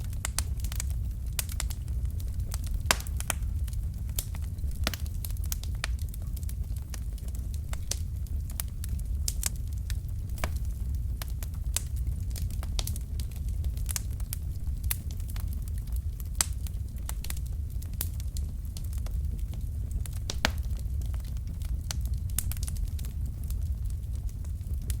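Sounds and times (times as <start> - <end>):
logs crackling and popping in fire: 0.0 - 25.0.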